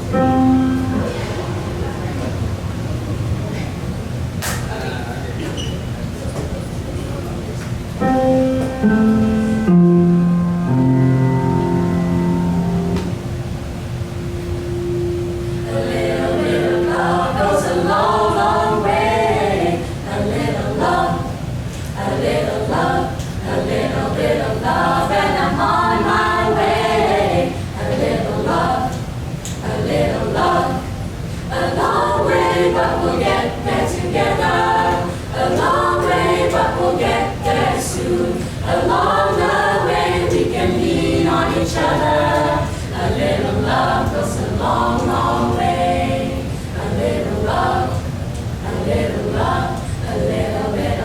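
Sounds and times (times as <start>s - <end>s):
group singing in harmony: 0.0s - 3.6s, 8.0s - 51.0s.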